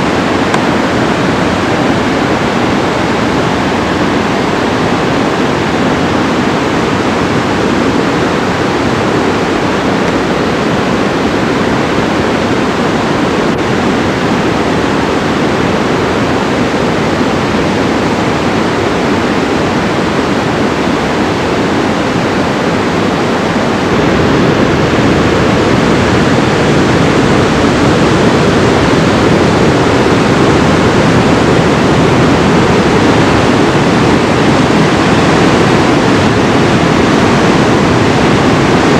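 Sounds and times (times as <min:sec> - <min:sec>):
whitewater rushing through gorge: 0:00.0 - 0:38.9.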